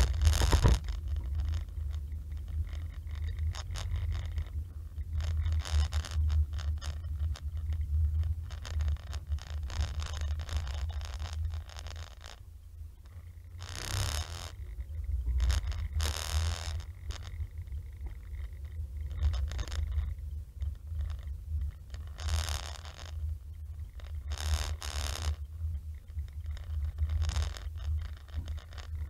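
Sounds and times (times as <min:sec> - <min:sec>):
short scratchy rattles: 0:00.0 - 0:12.4, 0:13.1 - 0:29.0
car driving rumble: 0:00.0 - 0:29.0.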